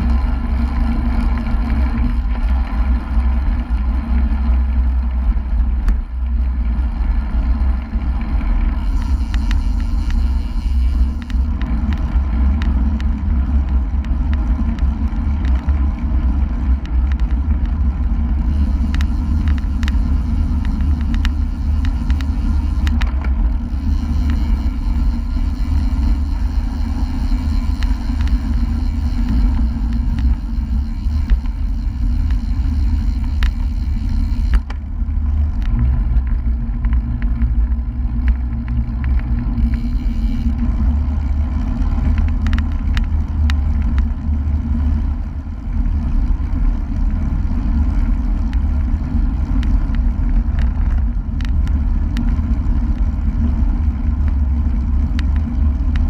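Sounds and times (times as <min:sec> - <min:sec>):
bike clicks and knocks: 0:00.0 - 0:56.0
road and tyre noise: 0:00.0 - 0:56.0.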